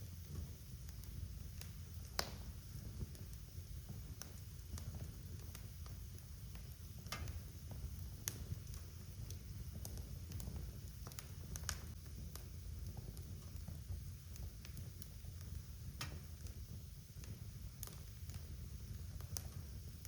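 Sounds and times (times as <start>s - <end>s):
fire crackles and pops: 0.0s - 20.0s
wood fire burning: 0.0s - 20.0s.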